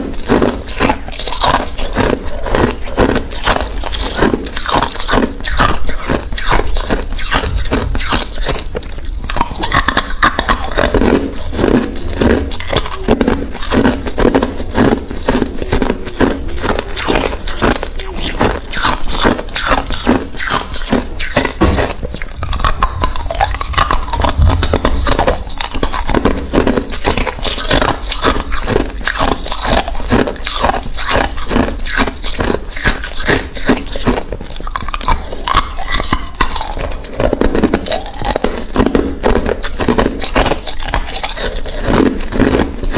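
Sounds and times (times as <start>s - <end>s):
person crunching ice cubes: 0.0s - 42.9s.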